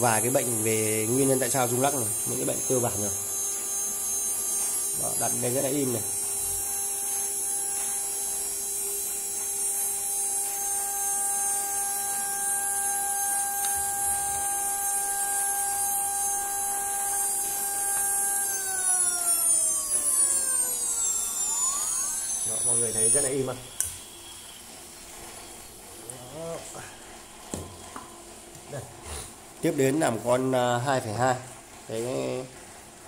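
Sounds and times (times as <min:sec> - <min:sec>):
spindle motor whining: 0:00.0 - 0:28.7.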